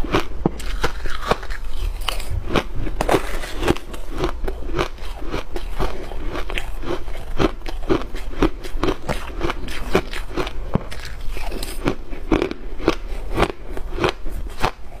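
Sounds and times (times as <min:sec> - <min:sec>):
shaved ice being chewed: 0:00.0 - 0:15.0.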